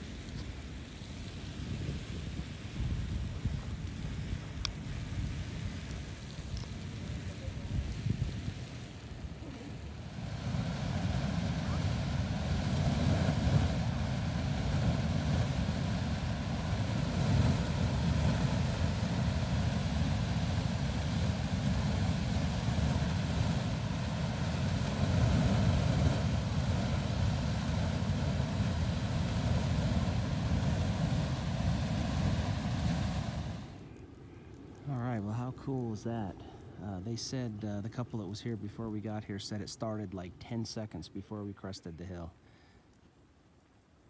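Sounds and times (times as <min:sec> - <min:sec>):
geyser water and steam rushing: 0:00.0 - 0:42.4.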